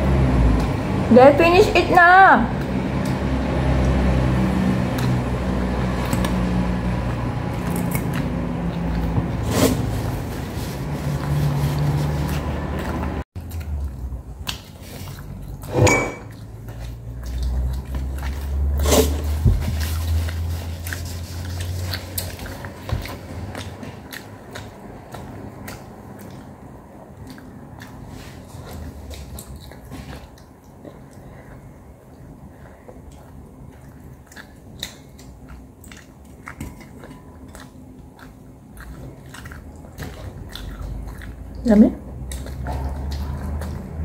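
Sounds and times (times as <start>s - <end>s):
person chewing food: 0.0s - 1.1s, 2.5s - 44.0s
wet mouth sounds: 2.5s - 44.0s.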